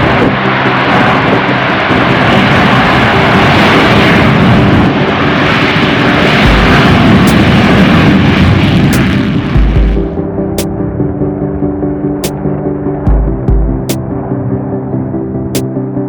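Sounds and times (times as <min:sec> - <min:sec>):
deep rumble: 0:00.0 - 0:16.0.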